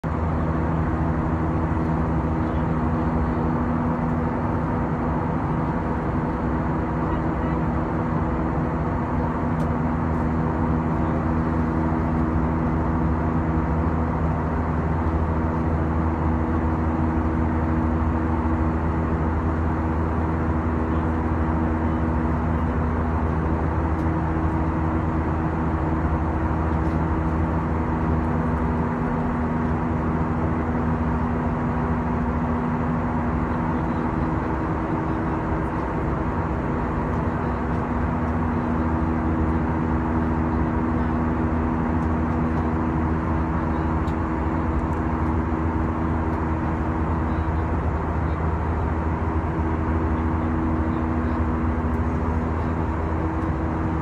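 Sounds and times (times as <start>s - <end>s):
low jet engine hum: 0.0s - 54.0s.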